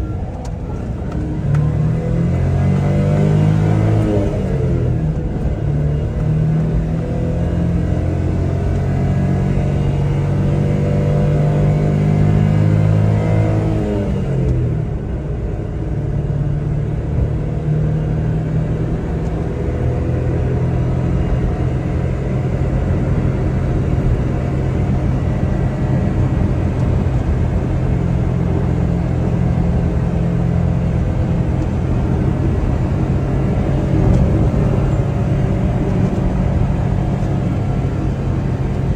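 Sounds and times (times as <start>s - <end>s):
road noise: 0.0s - 38.9s
small truck engine accelerating: 0.0s - 38.9s.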